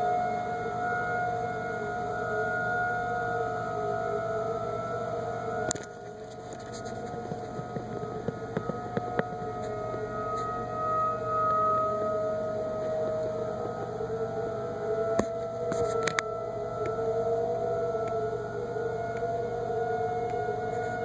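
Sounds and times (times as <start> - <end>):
outdoor warning siren steady tone: 0.0 - 21.0.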